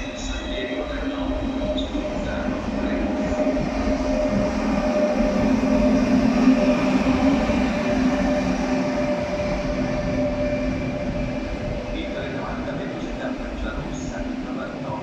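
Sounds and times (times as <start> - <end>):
constant whine: 0.0 - 15.0
train rumbling: 0.0 - 15.0.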